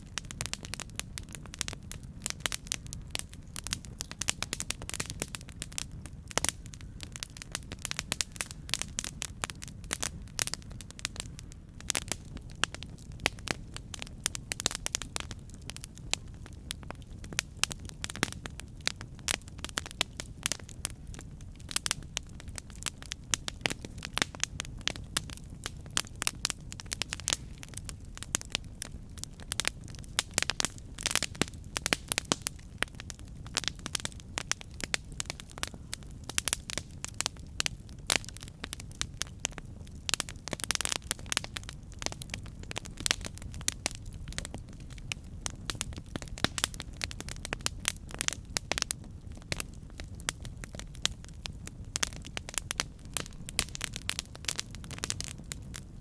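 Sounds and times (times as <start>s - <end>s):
burning wood crackling and popping: 0.0s - 56.0s
low rumble of flame: 0.0s - 56.0s.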